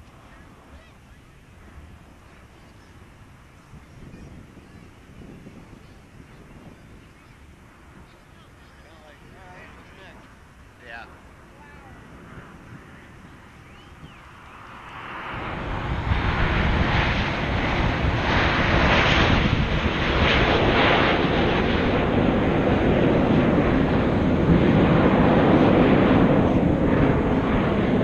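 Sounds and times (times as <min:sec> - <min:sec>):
jet aircraft roar: 0:00.0 - 0:28.0.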